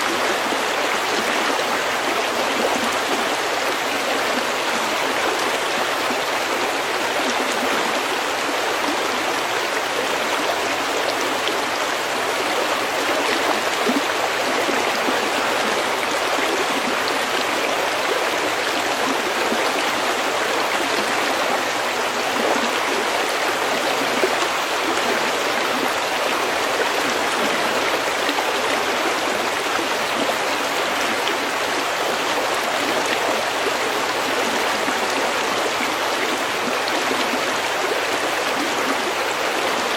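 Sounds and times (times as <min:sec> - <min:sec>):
stream flowing over pebbles: 0:00.0 - 0:39.9.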